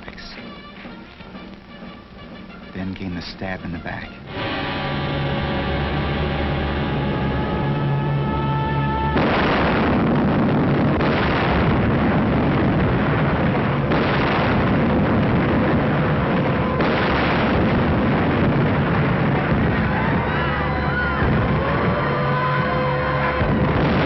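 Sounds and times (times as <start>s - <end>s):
heavy explosions rumbling: 2.8s - 24.0s.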